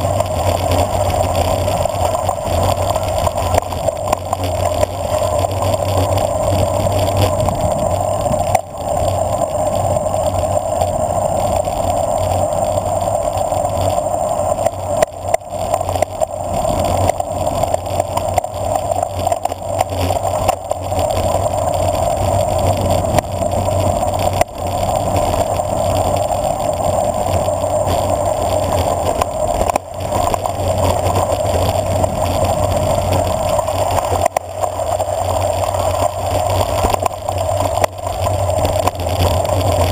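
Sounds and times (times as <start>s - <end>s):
bicycle rattle: 0.0s - 39.9s
bicycle tyres on gravel: 0.0s - 39.9s.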